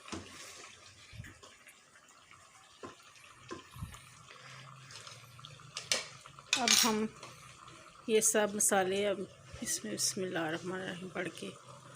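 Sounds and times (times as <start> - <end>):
potatoes simmering in gravy: 0.0 - 11.9.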